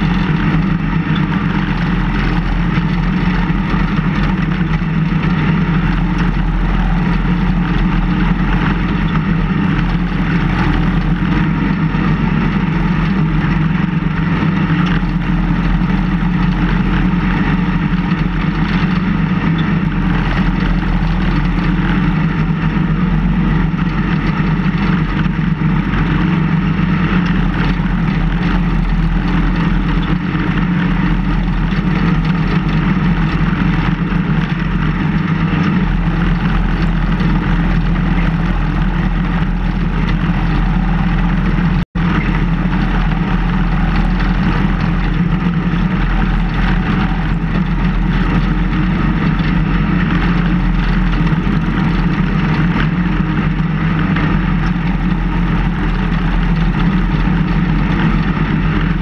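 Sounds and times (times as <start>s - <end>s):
snowplow engine running: 0.0s - 59.0s.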